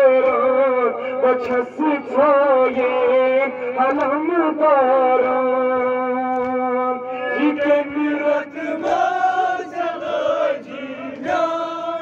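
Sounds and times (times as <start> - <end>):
man chanting into microphone: 0.0 - 9.7.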